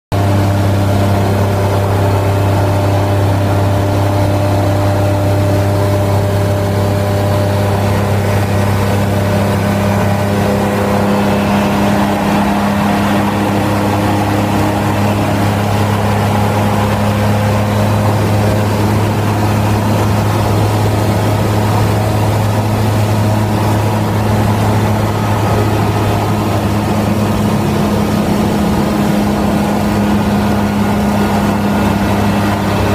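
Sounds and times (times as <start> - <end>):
light aircraft engine drone: 0.1 - 32.9.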